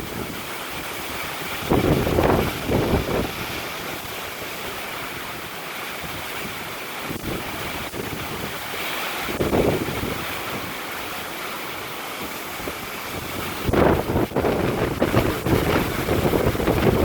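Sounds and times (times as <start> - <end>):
strong gusty wind: 0.0 - 17.0
wind buffeting microphone: 0.0 - 17.0.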